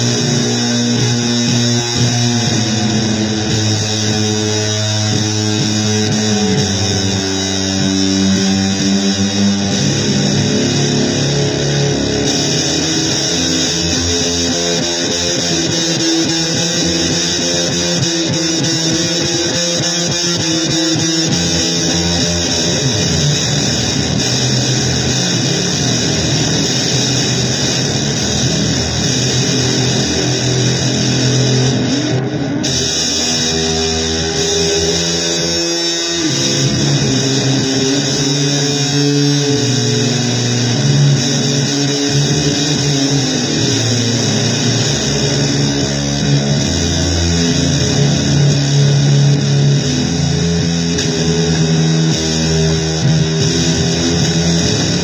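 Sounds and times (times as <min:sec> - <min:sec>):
slow blues guitar: 0:00.0 - 0:55.0.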